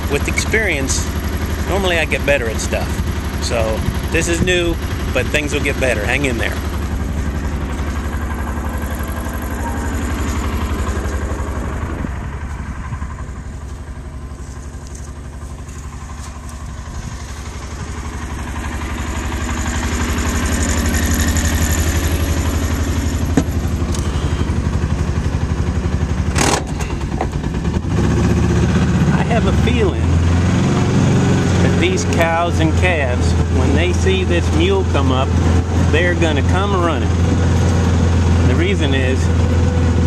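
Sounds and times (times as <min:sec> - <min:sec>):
utility vehicle engine running: 0:00.0 - 0:40.0.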